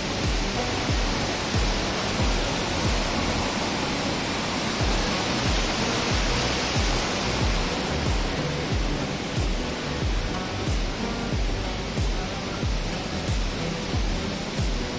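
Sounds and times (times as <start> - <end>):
music with low beat: 0.0 - 3.8, 4.8 - 14.9
waterfall rushing: 0.0 - 14.9.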